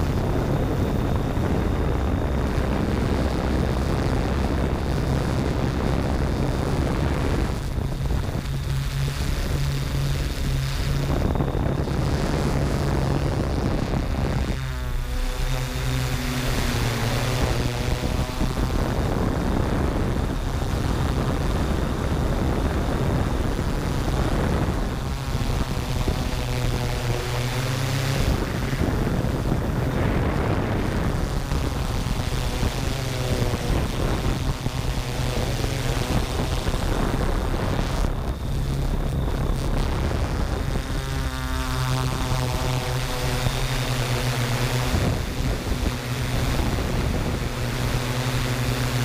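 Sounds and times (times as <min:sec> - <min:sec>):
drone propellers humming: 0:00.0 - 0:49.0
wind noise on microphone: 0:00.0 - 0:49.0.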